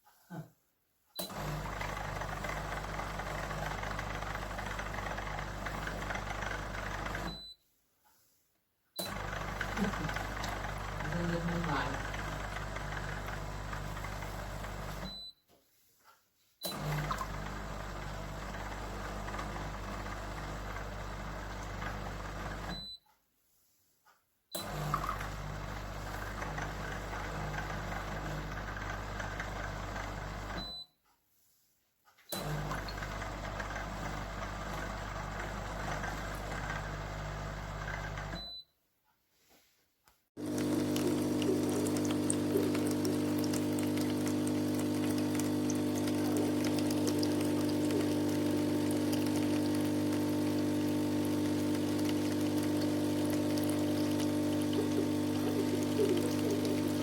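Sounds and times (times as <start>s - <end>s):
coffee machine humming: 1.2s - 7.3s, 9.0s - 15.2s, 16.7s - 22.8s, 24.6s - 30.6s, 32.4s - 38.4s, 40.4s - 57.0s.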